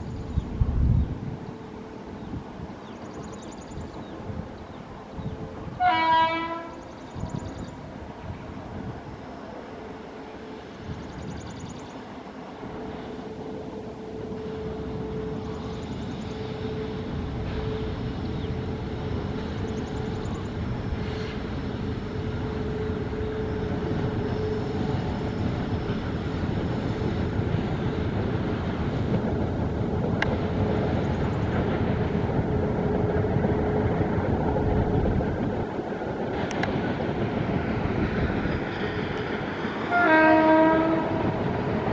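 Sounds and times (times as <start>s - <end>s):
freight train rumble: 0.0s - 41.9s.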